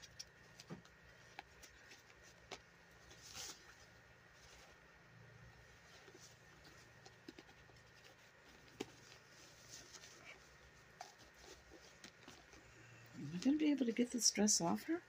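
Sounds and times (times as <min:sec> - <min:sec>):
doll being handled: 0:00.0 - 0:14.2.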